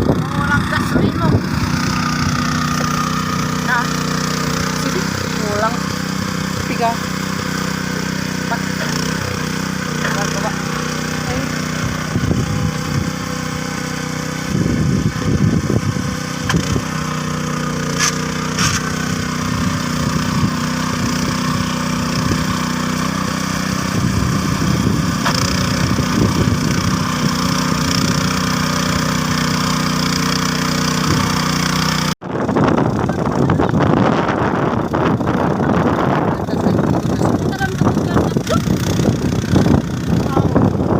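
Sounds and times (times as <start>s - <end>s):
tractor engine running under load: 0.0s - 40.9s.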